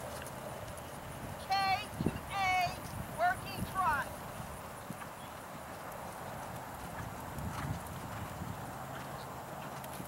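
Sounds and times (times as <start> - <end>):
horse hoofbeats trotting on sand: 0.0 - 10.0.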